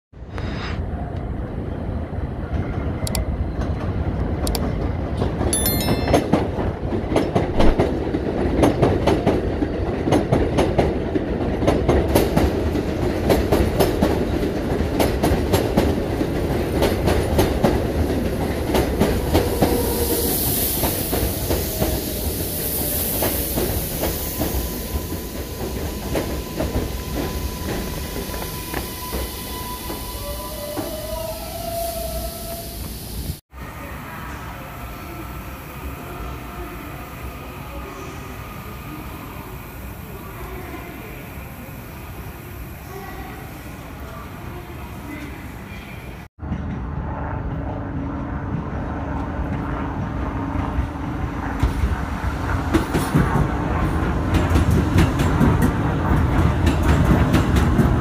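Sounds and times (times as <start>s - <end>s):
train rumbling past: 0.2s - 58.0s.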